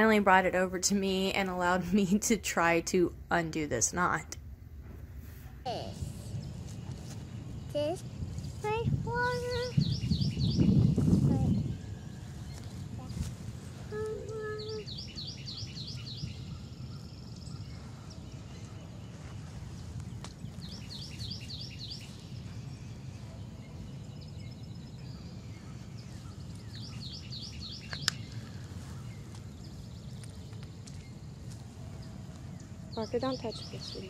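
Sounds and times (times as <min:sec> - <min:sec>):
songbird singing: 0:05.7 - 0:34.0.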